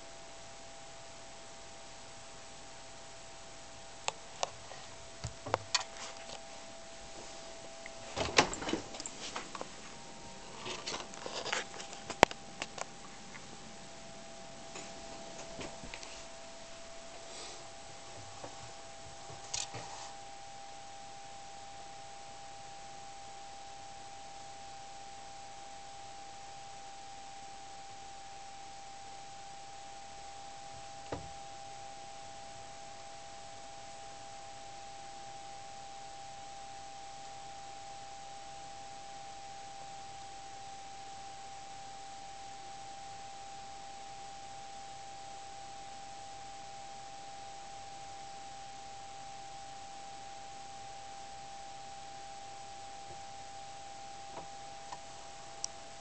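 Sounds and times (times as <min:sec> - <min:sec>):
constant hiss: 0:00.0 - 0:56.0.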